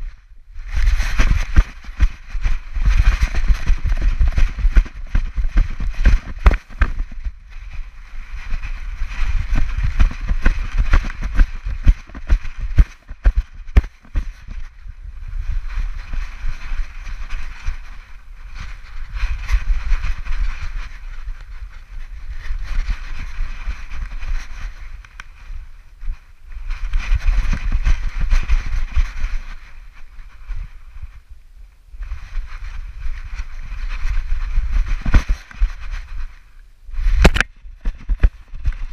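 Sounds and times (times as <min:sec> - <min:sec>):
wind buffeting a camera: 0:00.0 - 0:38.9.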